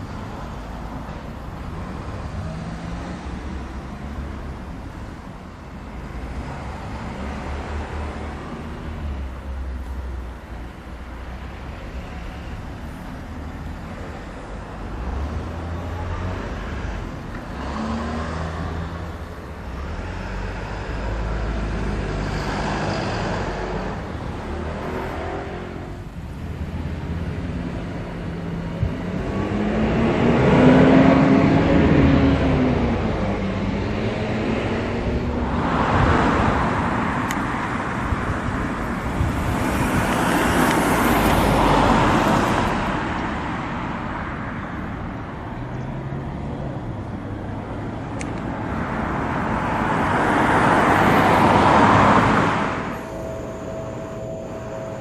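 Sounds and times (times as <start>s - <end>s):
vehicles passing by: 0.0s - 55.0s.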